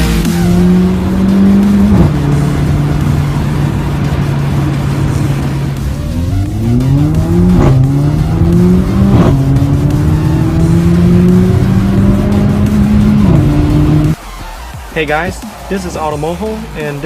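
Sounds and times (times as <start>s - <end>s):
car engine accelerating hard: 0.0s - 14.2s.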